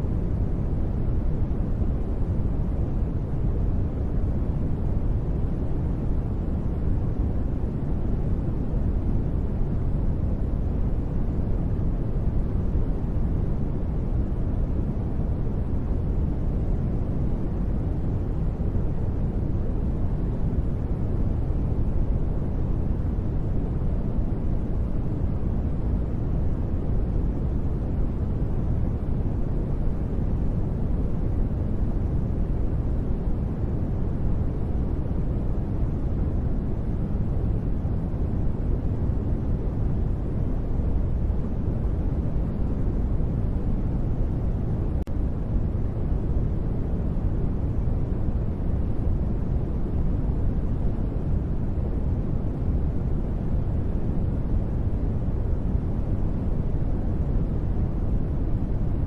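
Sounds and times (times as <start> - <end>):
deep rumbling brown noise: 0.0 - 59.0.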